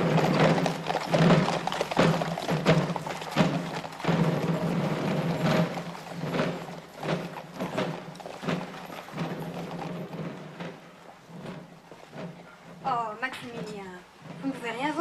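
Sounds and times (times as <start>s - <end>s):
hooves clip-clopping on cobblestones: 0.0s - 15.0s
steady low hum: 0.0s - 15.0s.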